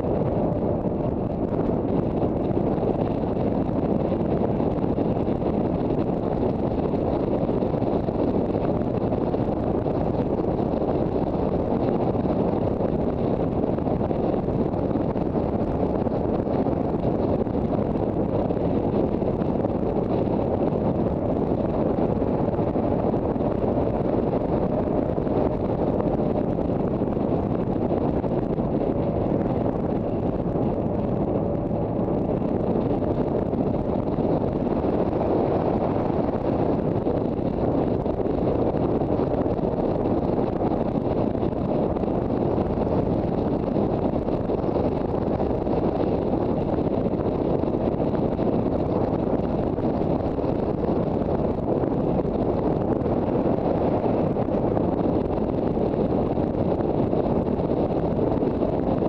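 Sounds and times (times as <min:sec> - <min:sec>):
wind rush over microphone: 0:00.0 - 0:59.0.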